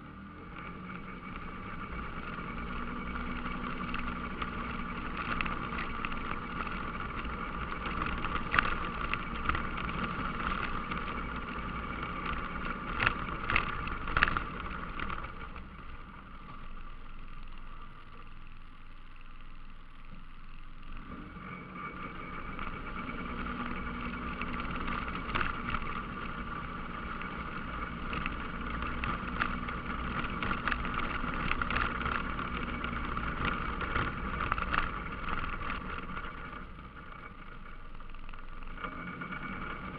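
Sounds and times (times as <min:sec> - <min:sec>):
atv engine running: 0:00.0 - 0:39.9
tires on gravel: 0:00.0 - 0:39.9.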